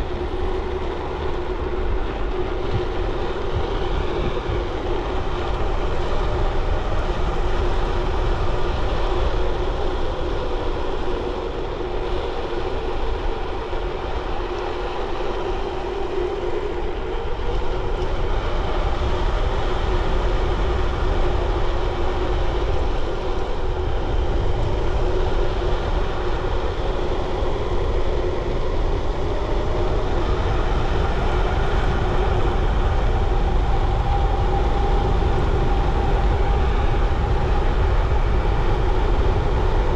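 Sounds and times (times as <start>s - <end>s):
bicycle tyres humming on road: 0.0s - 39.9s
wind noise on microphone: 0.0s - 39.9s.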